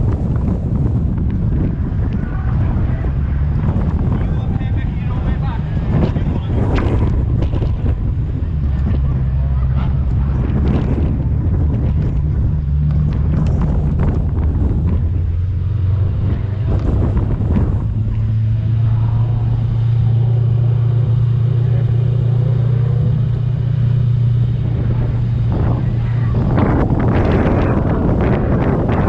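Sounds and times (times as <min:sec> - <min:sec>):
car engine droning: 0:00.0 - 0:29.0
wind on microphone: 0:00.0 - 0:29.0.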